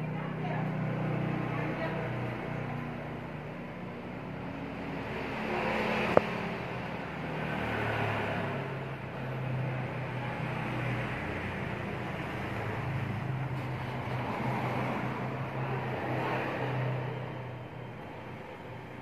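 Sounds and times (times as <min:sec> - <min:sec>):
vehicle engines going by: 0:00.0 - 0:19.0.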